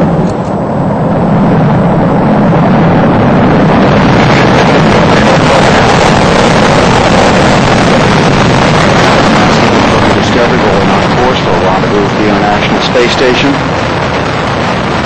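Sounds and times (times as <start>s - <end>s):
loud rocket roar: 0.0s - 15.0s.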